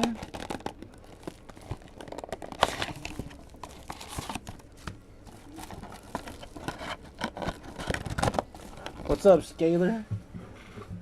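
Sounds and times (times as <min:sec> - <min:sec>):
wrapper crinkling: 0:00.0 - 0:09.6.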